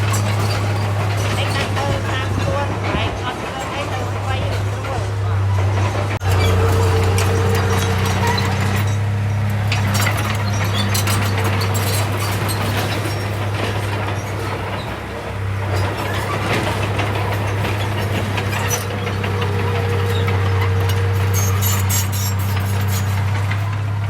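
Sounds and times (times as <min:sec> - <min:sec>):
clanks and rattles: 0:00.0 - 0:24.0
heavy diesel engine running: 0:00.0 - 0:24.0.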